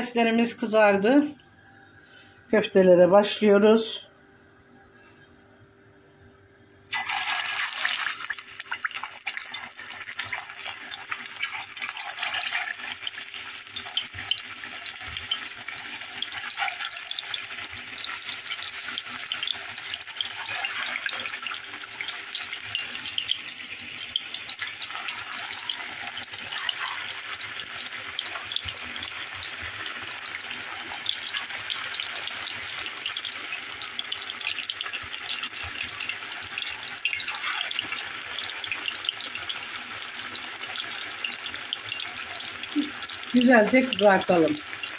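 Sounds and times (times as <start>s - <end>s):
deep-frying sizzle and pops: 6.2s - 44.9s.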